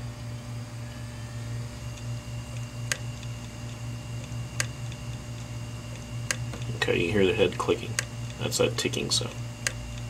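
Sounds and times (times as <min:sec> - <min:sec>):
hard drive hum: 0:00.0 - 0:10.0.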